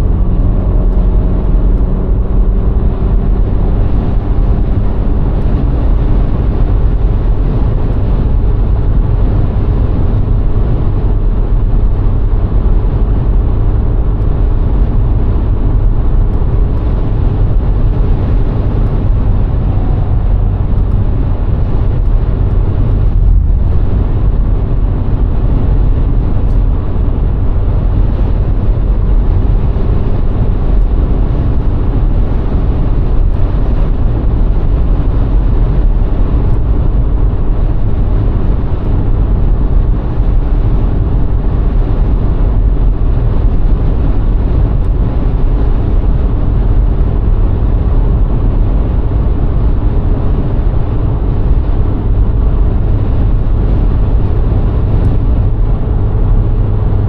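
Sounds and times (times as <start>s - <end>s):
car engine running: 0.0s - 57.0s
tyres rumbling on road: 0.0s - 57.0s
wind noise: 0.0s - 57.0s.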